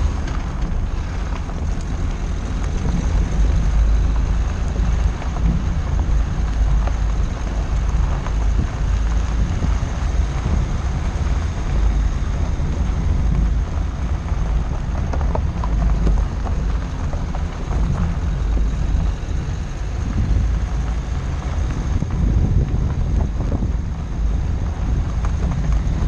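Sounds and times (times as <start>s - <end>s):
tyres crunching over stones: 0.0s - 26.0s
wind and road rumble: 0.0s - 26.0s.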